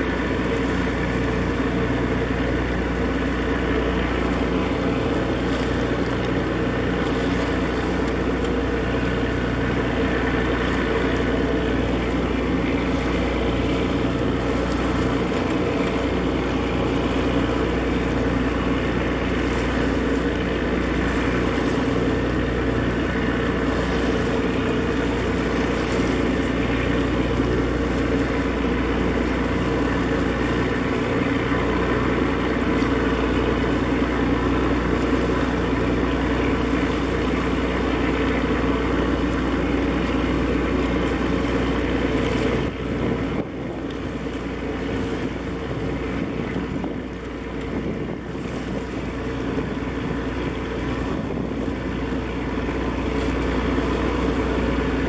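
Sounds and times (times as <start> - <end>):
low hum: 0.0 - 55.0
ship engine droning: 0.0 - 55.0.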